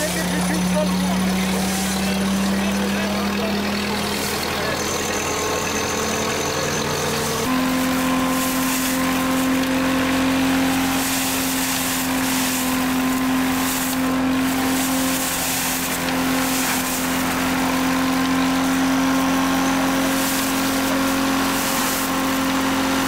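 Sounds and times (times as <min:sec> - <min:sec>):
threshing machine humming: 0:00.0 - 0:23.0.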